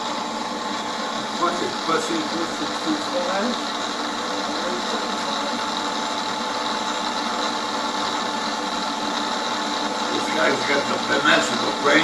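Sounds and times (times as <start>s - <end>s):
machine motor hum with high whine: 0.0s - 12.0s.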